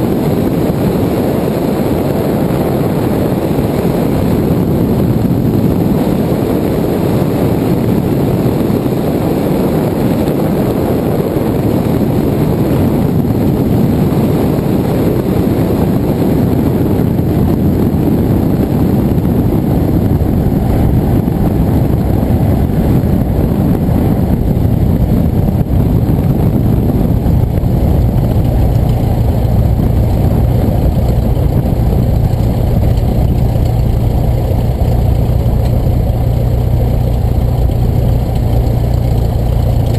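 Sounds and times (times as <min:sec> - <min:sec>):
low hum: 0:00.0 - 0:39.9
propeller plane engine running: 0:00.0 - 0:39.9.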